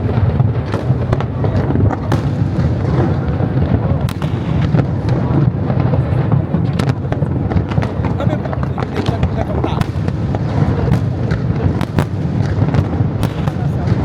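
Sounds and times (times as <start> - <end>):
fireworks booms rumbling: 0.0 - 14.0
fireworks cracking: 0.0 - 14.0.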